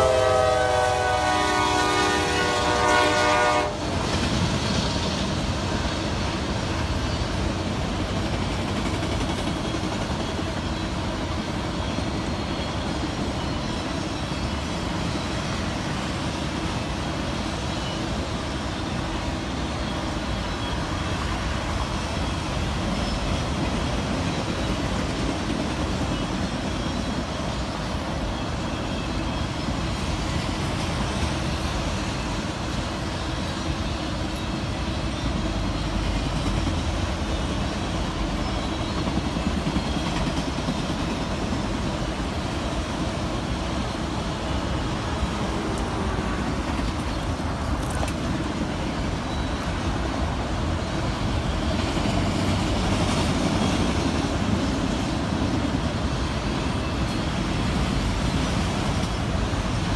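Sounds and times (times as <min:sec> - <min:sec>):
freight train wheels on rail: 0:00.0 - 0:59.9
rattling train cars: 0:00.0 - 0:59.9
road traffic passing: 0:00.0 - 0:59.9.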